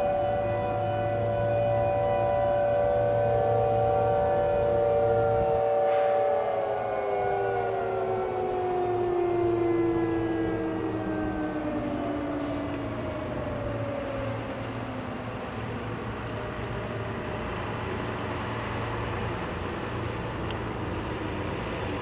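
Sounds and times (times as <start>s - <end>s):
distant warning sirens winding down: 0.0s - 22.0s.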